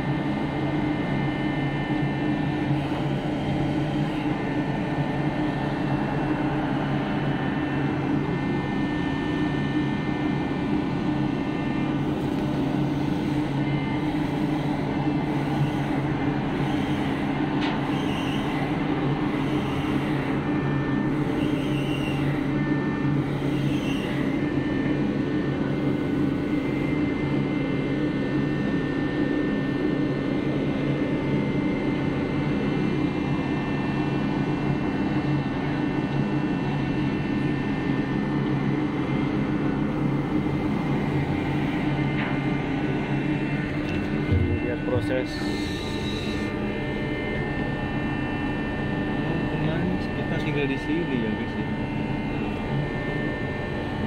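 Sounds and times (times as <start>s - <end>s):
ship diesel engines droning: 0.0s - 30.4s, 35.6s - 54.0s.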